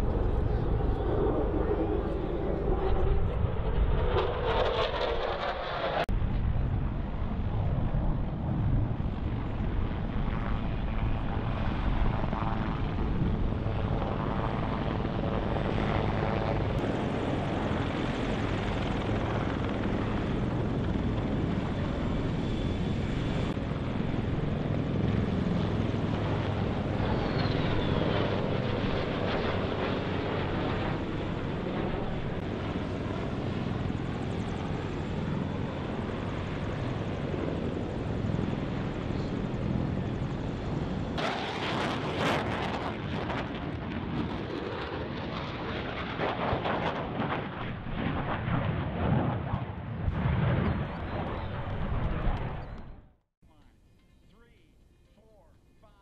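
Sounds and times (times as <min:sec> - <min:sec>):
helicopter rotor beat and turbine: 0:00.0 - 0:56.0.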